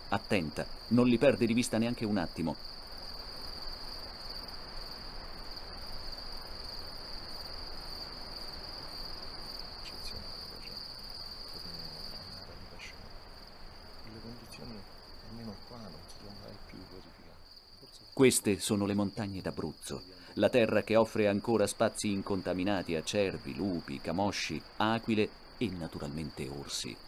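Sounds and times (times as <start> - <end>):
crickets chirring: 0.0 - 27.0
soft background hiss: 0.0 - 27.0.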